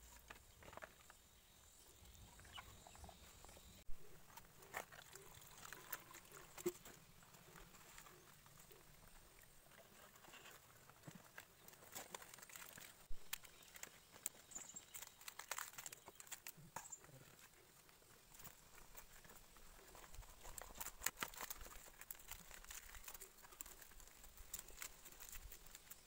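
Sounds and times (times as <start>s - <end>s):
banana leaf crackling and rustling: 4.4s - 26.0s.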